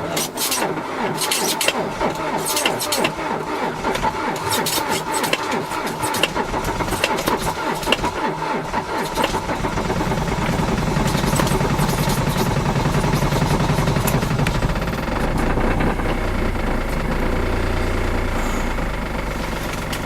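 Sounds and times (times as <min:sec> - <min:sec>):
car engine cranking and starting: 0:00.0 - 0:20.0.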